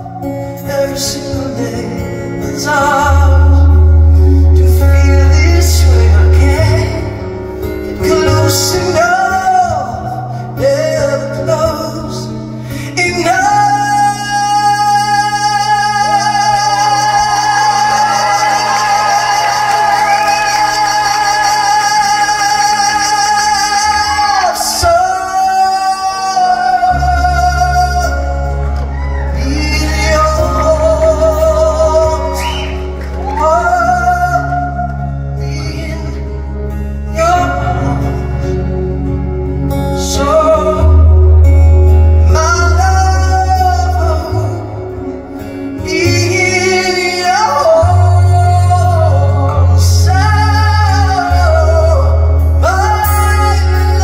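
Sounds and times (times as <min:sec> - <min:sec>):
acoustic guitar: 0:00.0 - 0:54.0
band playing: 0:00.0 - 0:54.0.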